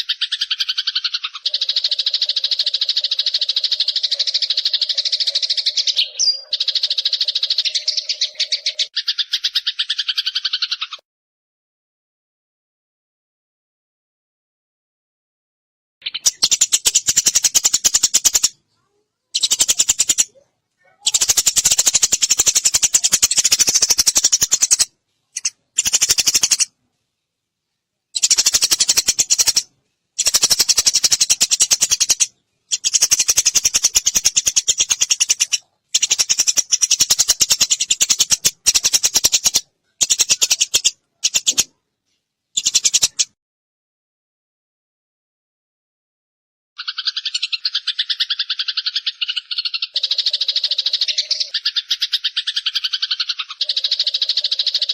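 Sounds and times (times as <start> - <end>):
sparrows chirping: 0.0 - 11.0, 16.0 - 26.8, 28.1 - 41.8, 42.5 - 43.4, 46.8 - 54.9.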